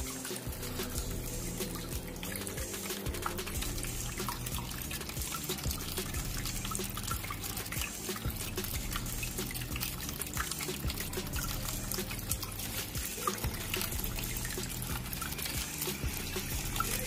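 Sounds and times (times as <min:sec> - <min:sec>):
background music: 0:00.0 - 0:17.0
water trickling and dripping: 0:00.0 - 0:17.0.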